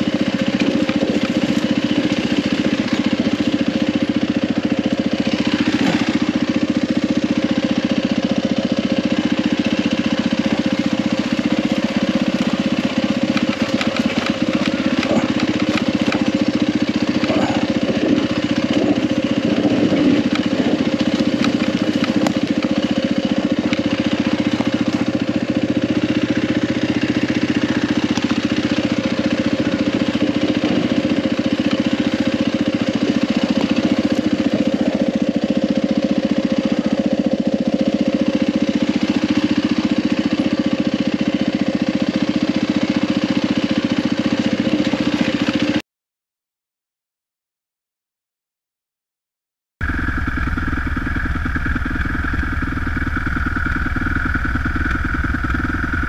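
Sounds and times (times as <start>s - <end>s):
dirt bike engine running: 0.0s - 45.8s, 49.8s - 56.0s.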